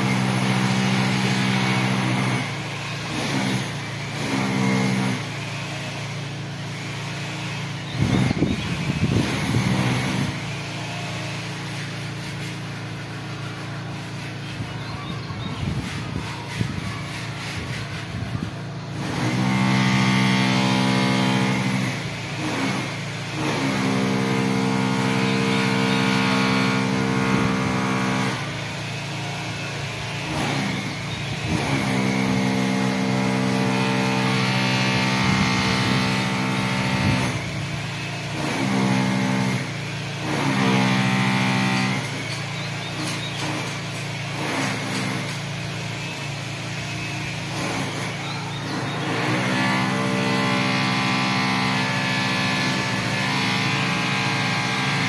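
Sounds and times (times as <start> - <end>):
engine idling and revving: 0.0 - 11.7, 17.4 - 55.0.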